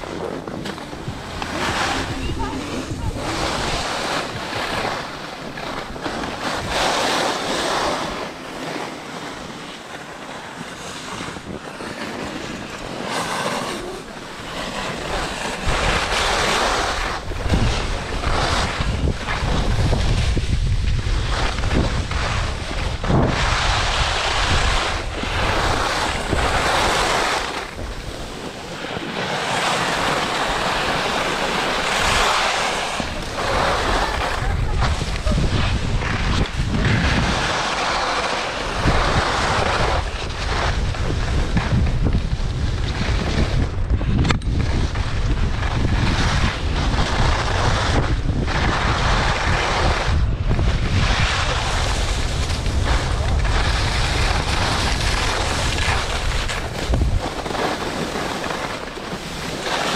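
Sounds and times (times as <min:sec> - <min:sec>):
wind buffeting microphone: 0:00.0 - 0:09.8, 0:10.8 - 0:59.9
low wind rumble: 0:00.0 - 0:59.9
skis scraping over packed snow: 0:00.0 - 0:59.9.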